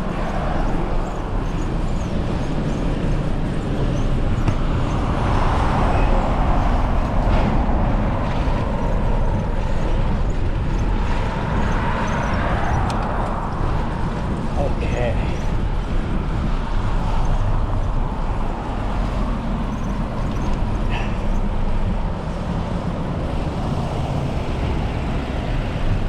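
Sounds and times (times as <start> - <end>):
road traffic passing: 0.0 - 26.0
wind buffeting microphone: 0.0 - 26.0.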